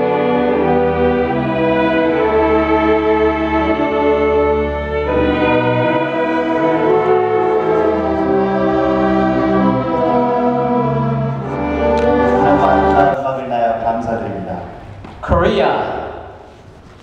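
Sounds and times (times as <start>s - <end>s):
slow orchestral string chords: 0.0s - 14.8s.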